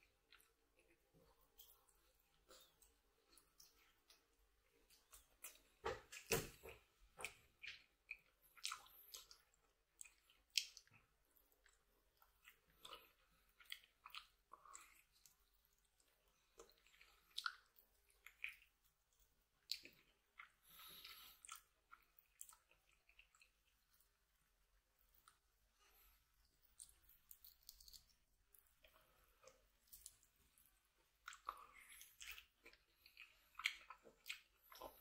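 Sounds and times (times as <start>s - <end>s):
man chewing meat: 0.0s - 5.8s, 6.8s - 35.0s.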